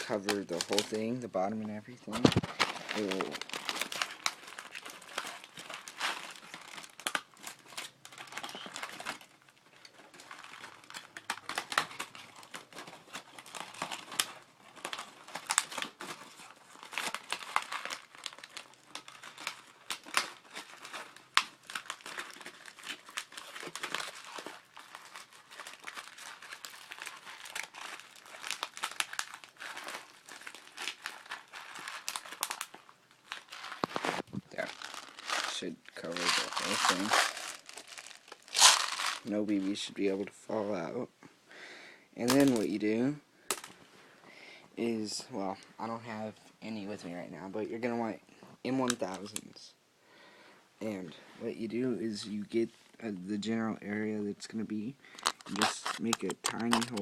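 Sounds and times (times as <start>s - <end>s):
tin foil crinkling: 0.0s - 40.2s, 42.2s - 43.9s, 48.7s - 49.6s, 51.5s - 57.0s.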